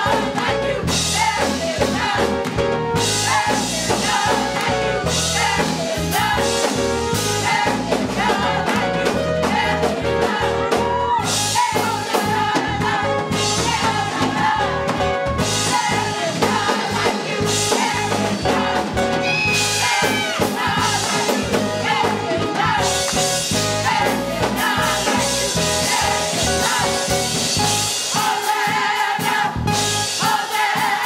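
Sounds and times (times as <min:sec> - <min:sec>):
steady bass line: 0:00.0 - 0:28.0
gospel choir singing: 0:00.0 - 0:31.0
keyboard accompaniment: 0:00.0 - 0:31.0.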